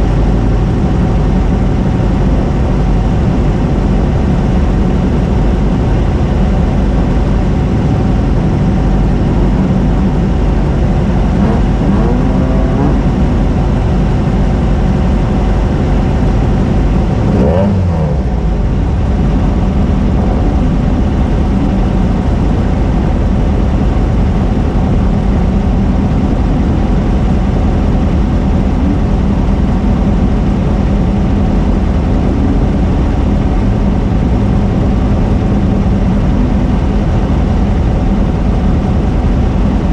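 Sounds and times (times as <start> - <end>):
race car engine rumble: 0.0 - 39.9.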